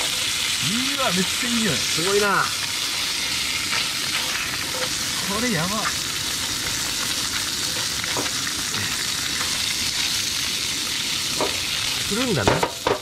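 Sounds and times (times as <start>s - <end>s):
fish sizzling in frying pan: 0.0s - 13.0s.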